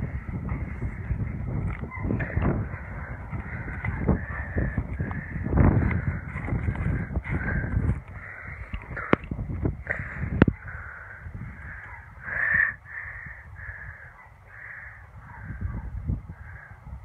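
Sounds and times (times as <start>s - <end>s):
crows cawing: 0.0s - 16.9s.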